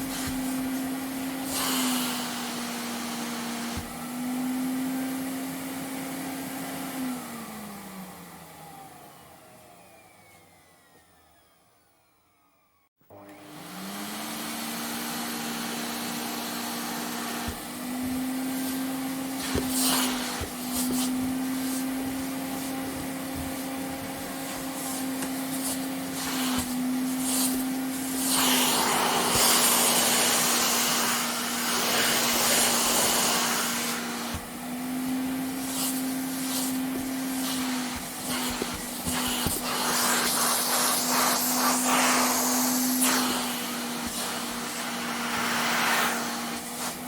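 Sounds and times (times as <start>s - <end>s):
vacuum cleaner motor humming: 0.0s - 47.0s.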